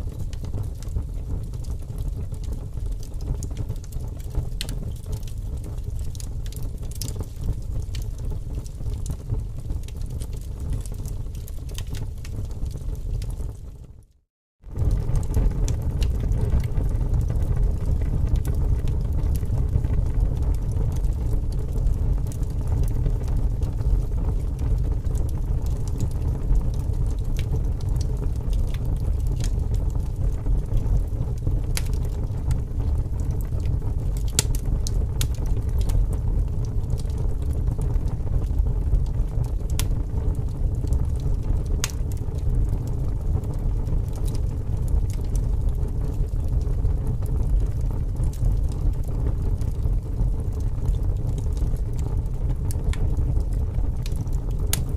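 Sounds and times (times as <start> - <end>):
fire crackling and popping: 0.0 - 54.9
large fire burning: 0.0 - 54.9.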